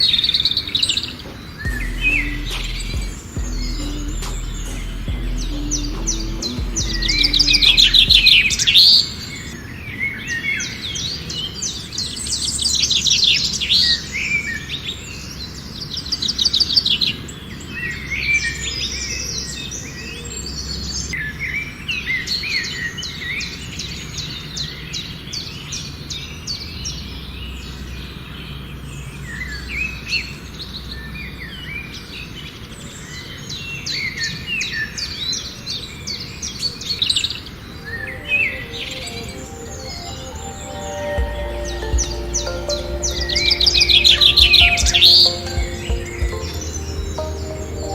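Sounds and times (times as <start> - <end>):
songbirds chirping: 0.0 - 47.9.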